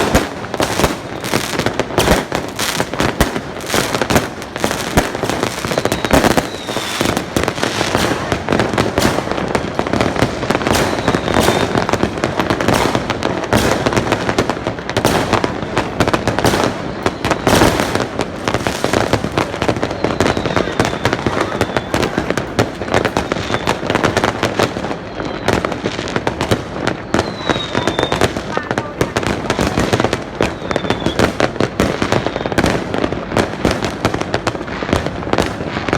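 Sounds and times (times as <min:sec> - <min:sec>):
firework whistle: 0:00.0 - 0:14.4, 0:15.1 - 0:28.6, 0:29.6 - 0:32.8
fireworks bangs and crackles: 0:00.0 - 0:35.9.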